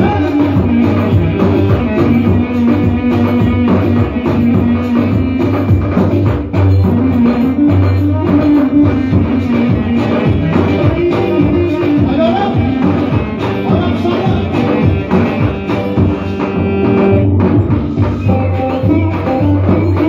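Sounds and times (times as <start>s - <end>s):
electronic keyboard dance music: 0.0s - 20.0s
steady drum beat: 0.0s - 20.0s.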